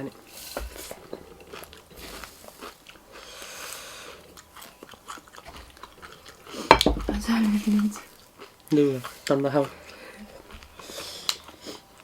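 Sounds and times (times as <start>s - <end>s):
person chewing crunchy food: 0.1s - 12.0s.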